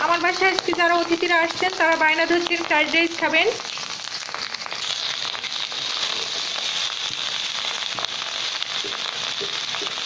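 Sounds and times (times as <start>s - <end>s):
rice sizzling in hot oil: 0.0s - 10.0s.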